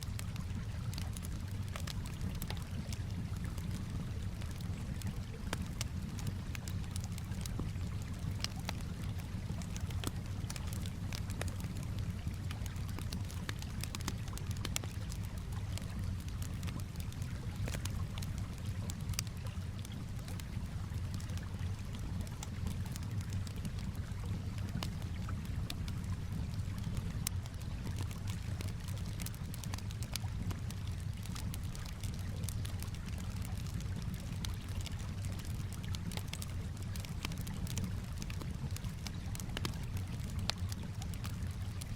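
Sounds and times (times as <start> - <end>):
calm water washing: 0.0 - 41.9
campfire crackling and popping: 0.0 - 41.9.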